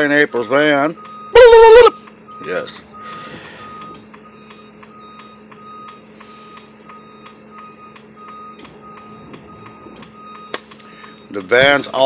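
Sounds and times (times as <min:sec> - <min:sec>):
tow truck warning beeper: 0:00.0 - 0:12.0.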